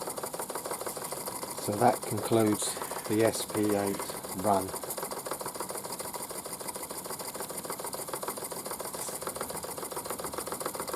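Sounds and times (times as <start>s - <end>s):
model steam engine clattering: 0.0s - 10.9s.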